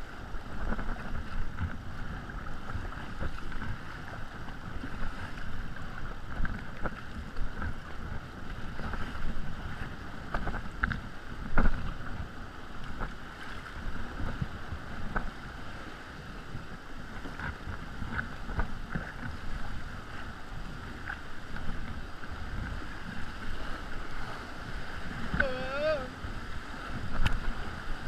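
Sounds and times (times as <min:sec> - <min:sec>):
paddle splashing and dripping: 0:00.0 - 0:28.0
water sloshing against kayak: 0:00.0 - 0:28.0
wind rumbling on microphone: 0:00.0 - 0:28.0.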